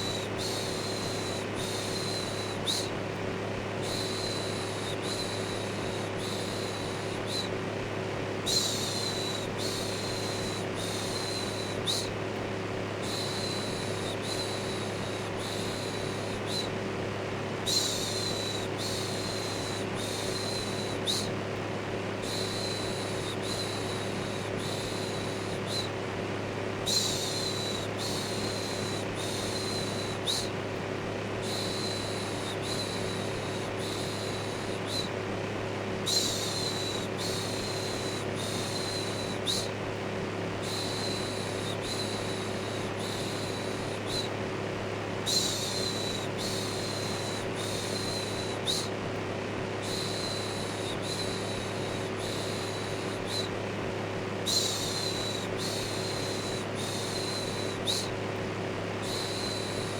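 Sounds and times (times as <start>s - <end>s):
electric fan humming: 0.0s - 59.9s.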